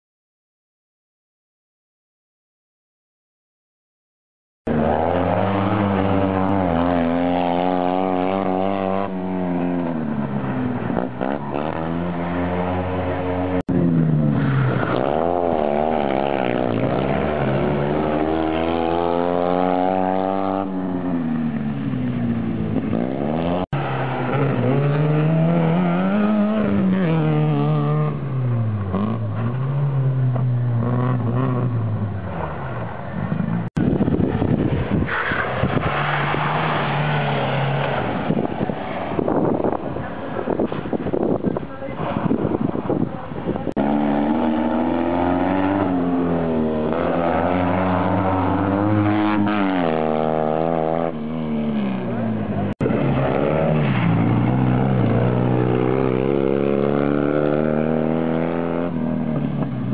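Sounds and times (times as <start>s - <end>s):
rally car engine revving: 4.7s - 59.9s.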